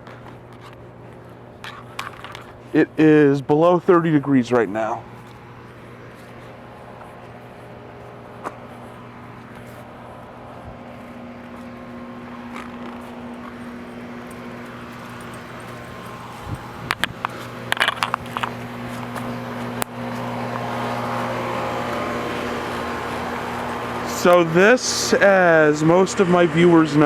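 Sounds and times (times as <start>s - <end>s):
heat pump unit humming: 0.0s - 27.0s.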